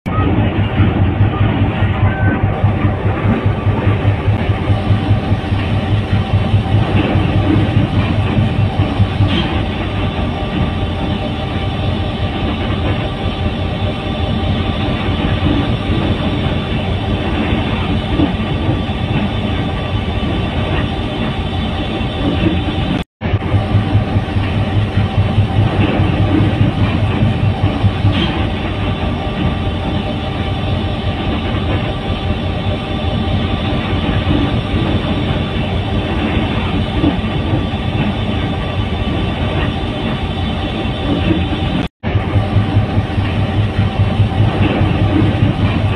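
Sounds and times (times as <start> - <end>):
train wheels rumbling: 0.1 - 45.9.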